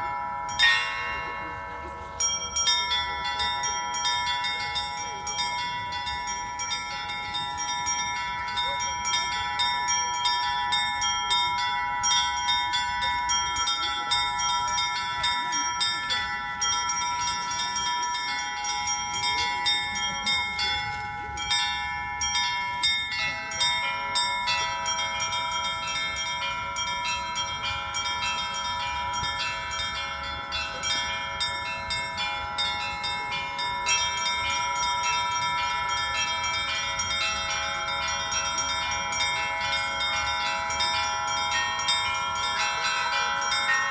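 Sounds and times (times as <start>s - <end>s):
larger bells ringing: 0.0s - 43.9s
lower-pitched bells: 0.0s - 43.9s
small bells ringing fast: 0.0s - 43.9s.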